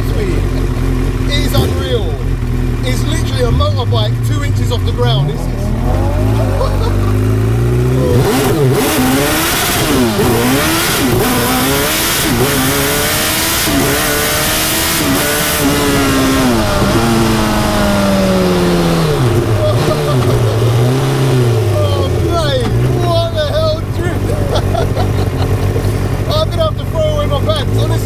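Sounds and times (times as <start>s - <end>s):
car engine accelerating through gears: 0.0s - 28.0s.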